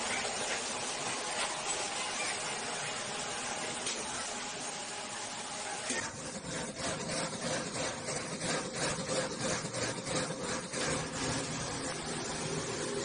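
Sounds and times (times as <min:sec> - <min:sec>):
machinery humming with pulsing: 0:00.0 - 0:13.0.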